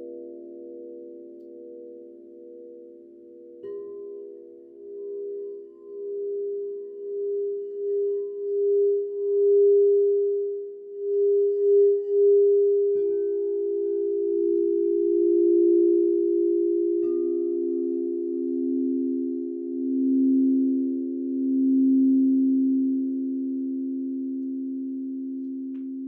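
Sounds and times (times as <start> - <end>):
singing bowls ringing: 0.0 - 26.0.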